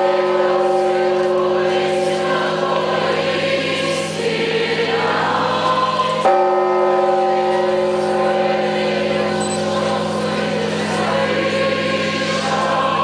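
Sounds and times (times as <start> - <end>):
choir singing: 0.0 - 13.0
church bells humming: 0.0 - 13.0.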